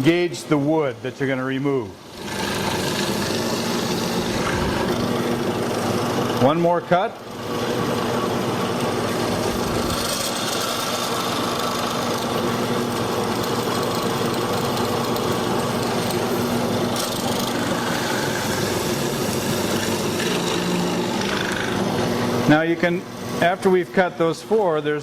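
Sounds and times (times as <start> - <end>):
mortiser motor boring into wood: 2.0 - 6.6, 7.2 - 23.5.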